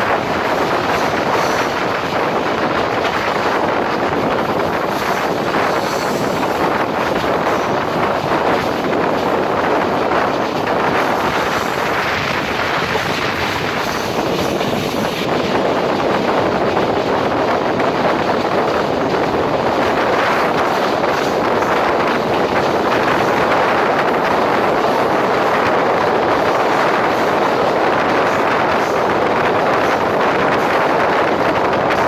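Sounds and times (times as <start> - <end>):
train wheel and track noise: 0.0 - 32.0
wind buffeting microphone: 0.0 - 32.0.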